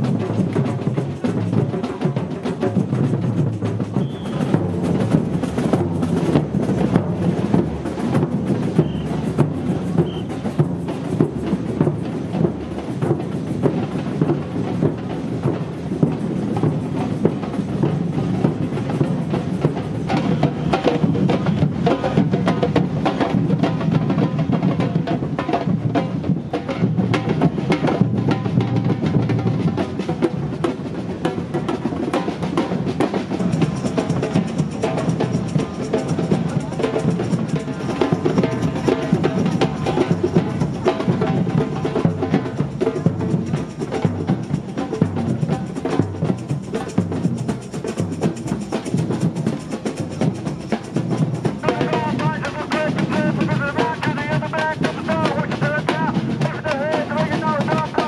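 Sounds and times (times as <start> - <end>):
bass drums: 0.0 - 58.0
samba percussion band drumming: 0.0 - 58.0
snare drums: 0.0 - 58.0.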